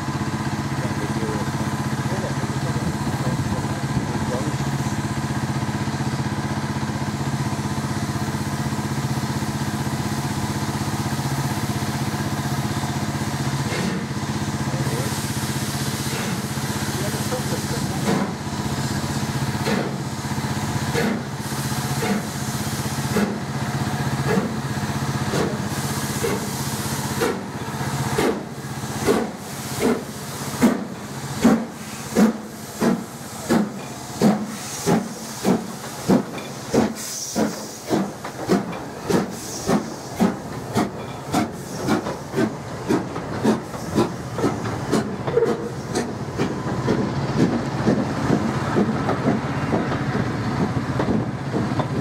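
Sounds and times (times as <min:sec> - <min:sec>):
steam hissing: 0:00.0 - 0:51.8
steam locomotive exhaust chuffs: 0:00.0 - 0:52.0.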